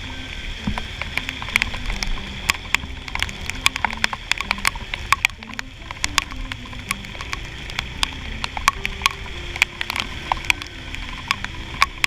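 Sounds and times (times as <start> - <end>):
raindrops ticking on camera: 0.0 - 12.0
scooter engine running: 0.0 - 12.0.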